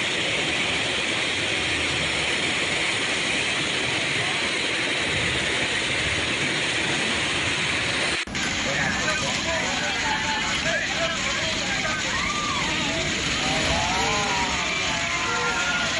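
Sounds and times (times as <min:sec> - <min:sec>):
floodwater rushing: 0:00.0 - 0:15.9.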